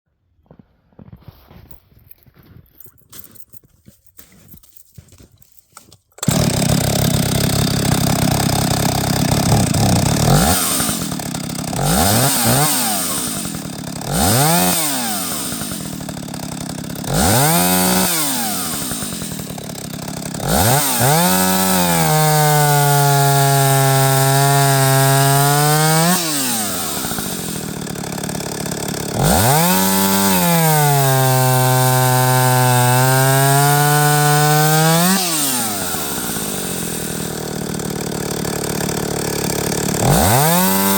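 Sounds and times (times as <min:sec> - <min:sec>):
chainsaw engine idling and revving: 0:06.2 - 0:40.9.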